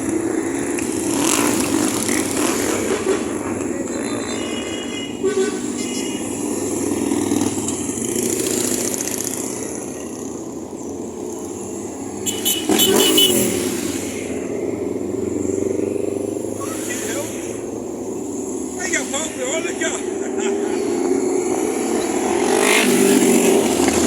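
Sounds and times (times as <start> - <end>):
motorbike revving past: 0.0 - 4.6, 6.2 - 19.2, 19.8 - 24.0
motorbike engines rumbling: 0.0 - 24.0
street traffic: 0.0 - 24.0.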